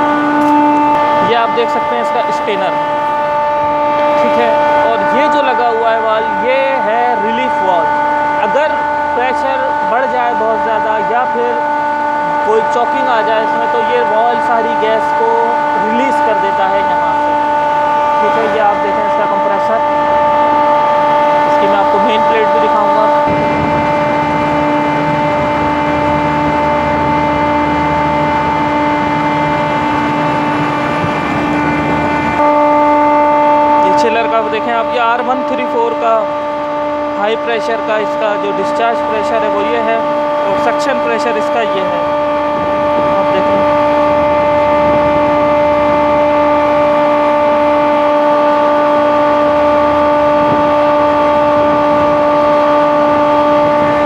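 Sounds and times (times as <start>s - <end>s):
chiller compressors and fans humming: 0.0s - 54.0s
steady whining tones: 0.0s - 54.0s.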